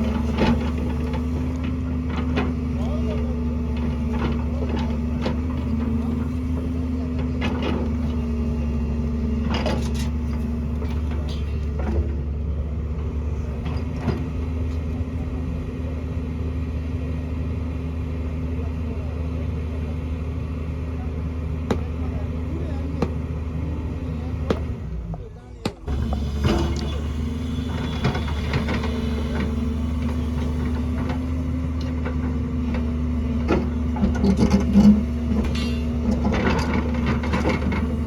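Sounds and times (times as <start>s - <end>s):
excavator diesel engine droning: 0.0s - 38.0s.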